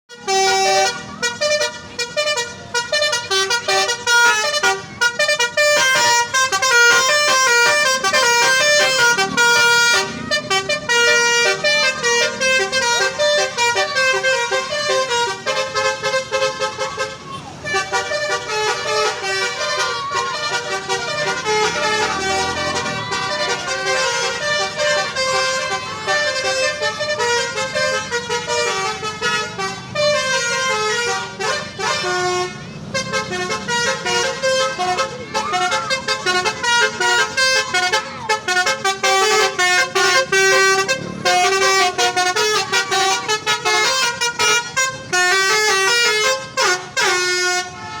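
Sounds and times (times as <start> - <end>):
bus horn playing melody: 0.1 - 48.0.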